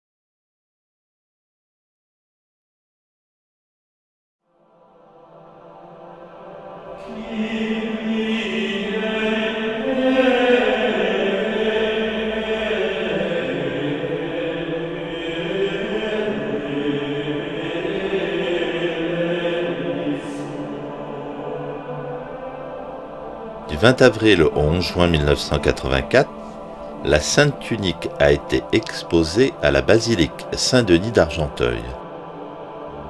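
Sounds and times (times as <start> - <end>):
slow vocal chant: 4.5 - 33.0.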